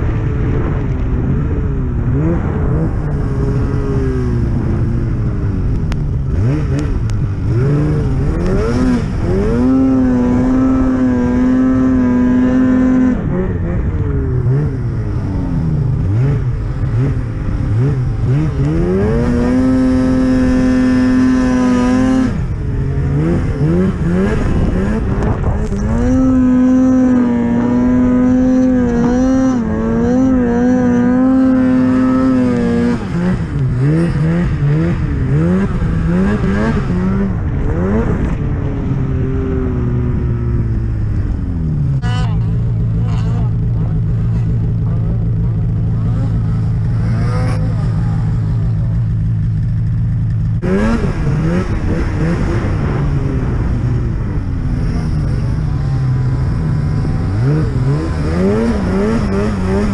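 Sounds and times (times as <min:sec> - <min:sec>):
snowmobile engine revving: 0:02.0 - 0:59.9.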